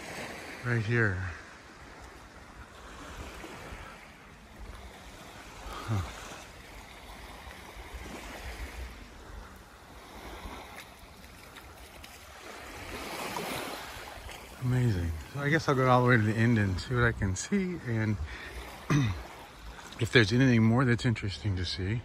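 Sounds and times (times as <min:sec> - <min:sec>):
surf washing onto beach: 0:00.0 - 0:22.0.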